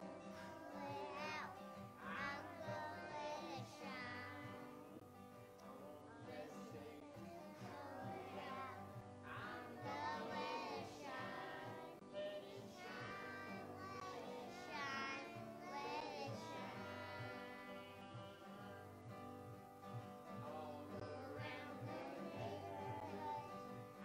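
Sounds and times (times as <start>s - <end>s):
young children singing: 0.0s - 19.4s, 20.2s - 24.0s
acoustic guitar: 0.0s - 24.0s.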